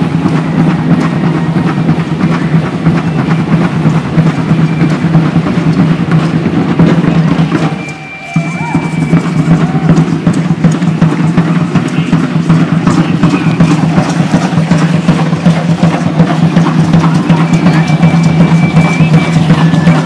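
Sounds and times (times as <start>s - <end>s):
fast dense drumming: 0.0s - 20.0s.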